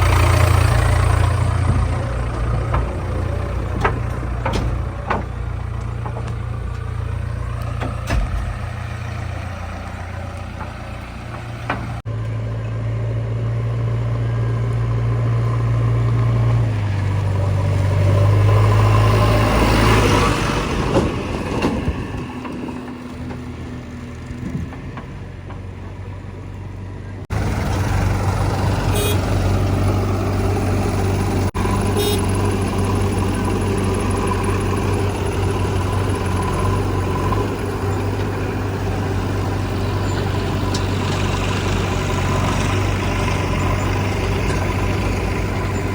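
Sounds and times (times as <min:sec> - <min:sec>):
heavy diesel machinery droning: 0:00.0 - 0:45.9.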